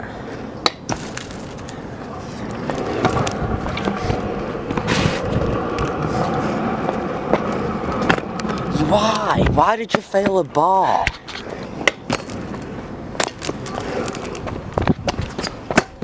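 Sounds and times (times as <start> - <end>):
scooter wheels rolling on asphalt: 0.0 - 16.0.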